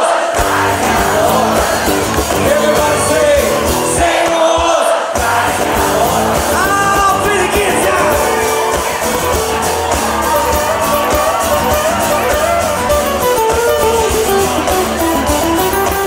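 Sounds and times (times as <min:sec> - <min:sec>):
person singing: 0:00.0 - 0:14.1
acoustic guitars: 0:00.4 - 0:04.2, 0:05.2 - 0:16.0
drums: 0:00.4 - 0:16.0.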